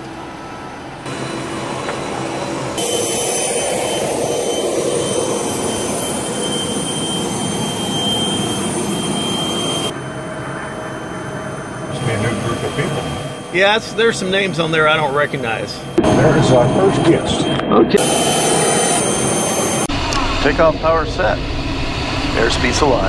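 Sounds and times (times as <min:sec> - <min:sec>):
jet engine idling: 0:00.0 - 0:23.0.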